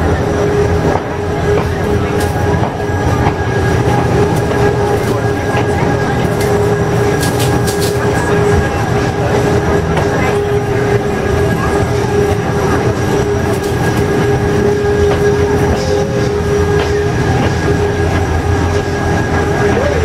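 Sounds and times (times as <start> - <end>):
constant whine: 0.0 - 20.0
railway car running gear rumble: 0.0 - 20.0.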